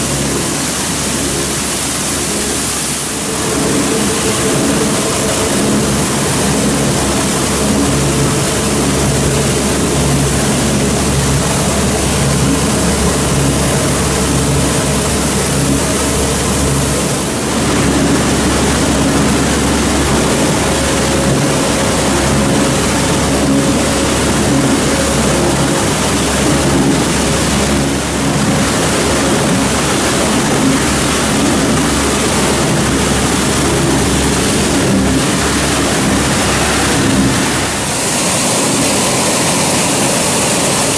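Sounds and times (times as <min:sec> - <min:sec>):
industrial machine drone: 0:00.0 - 0:40.9.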